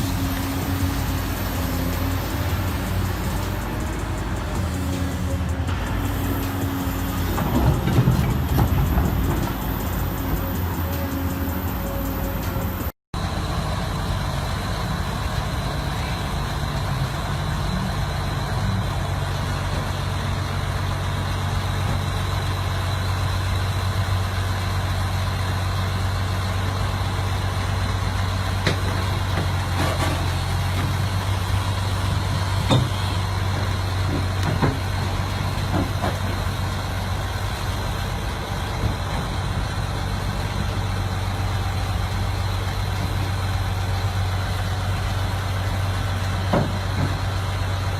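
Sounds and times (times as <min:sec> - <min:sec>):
heavy vehicle engine running: 0:00.0 - 0:47.9.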